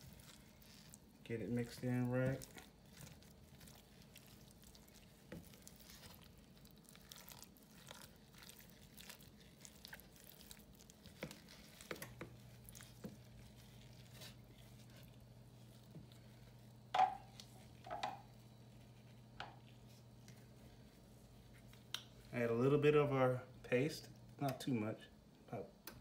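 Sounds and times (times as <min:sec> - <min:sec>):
spatula stirring thick filling: 0:00.0 - 0:24.5.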